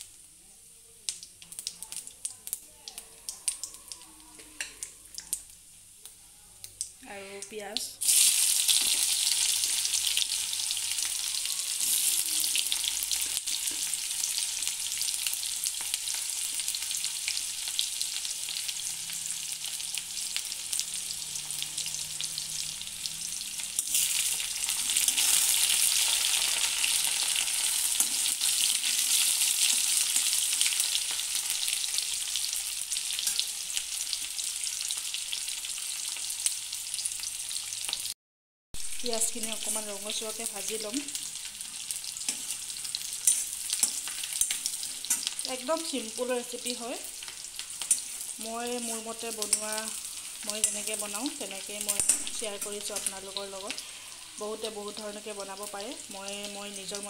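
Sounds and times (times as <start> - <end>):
onions sizzling in hot oil: 0.0 - 38.2, 38.8 - 57.0.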